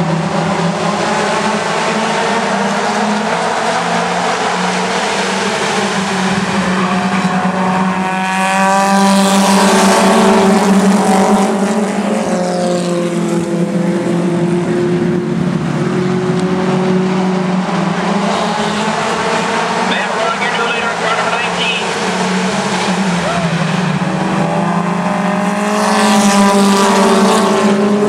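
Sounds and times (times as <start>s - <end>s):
drone of race car engines: 0.0s - 28.0s
race cars passing: 0.0s - 28.0s.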